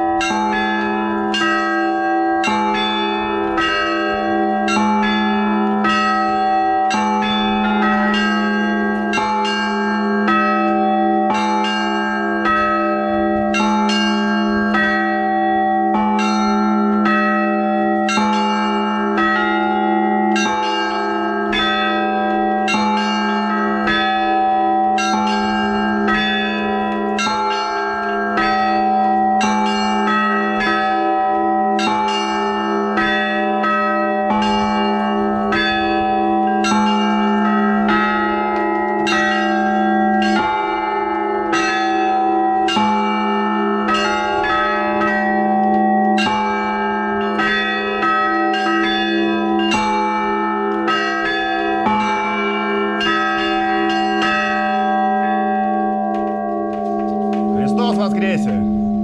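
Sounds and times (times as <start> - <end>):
church bells ringing: 0.0 - 59.0
low bell tone: 0.0 - 59.0.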